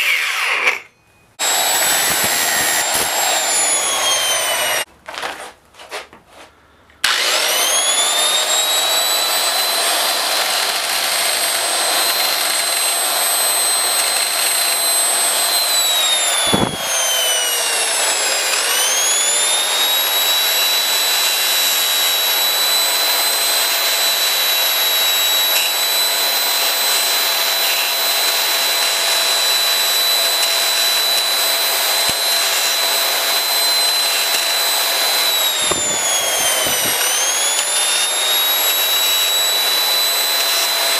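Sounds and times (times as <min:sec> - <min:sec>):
angle grinder cutting metal: 0:00.0 - 0:04.9, 0:07.0 - 0:40.9.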